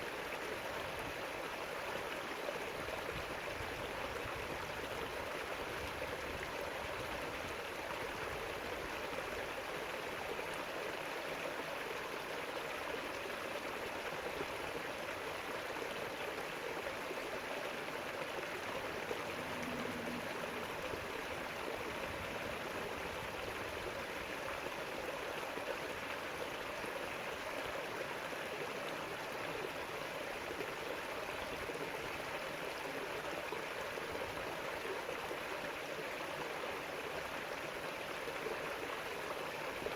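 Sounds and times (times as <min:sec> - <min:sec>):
river water rushing: 0:00.1 - 0:39.9.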